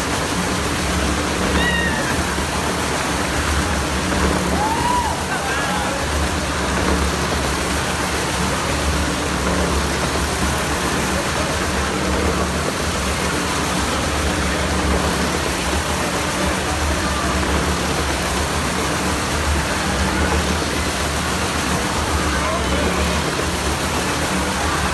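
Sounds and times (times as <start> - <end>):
go-kart engine droning: 0.0 - 24.9.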